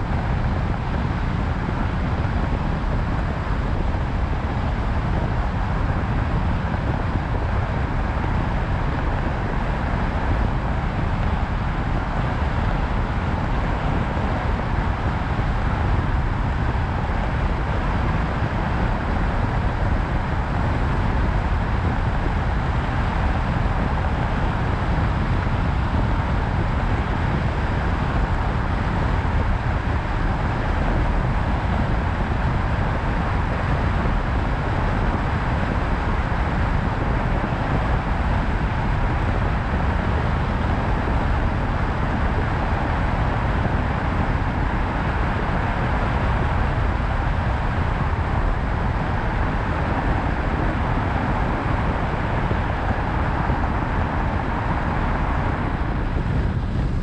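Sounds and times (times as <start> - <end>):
wind and road hiss: 0.0 - 57.0.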